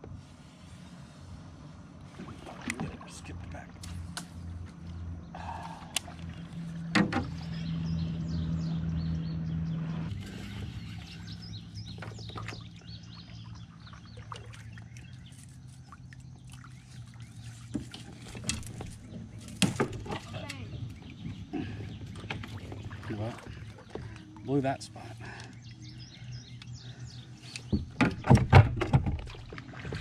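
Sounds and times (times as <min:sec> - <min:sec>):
steady low hum: 0:00.0 - 0:28.2
birds chirping: 0:00.1 - 0:30.0.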